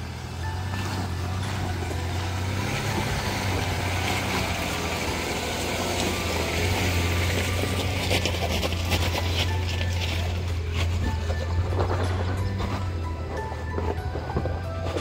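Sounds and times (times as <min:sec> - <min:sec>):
low engine hum: 0:00.0 - 0:15.0
tyres on stones: 0:00.7 - 0:15.0.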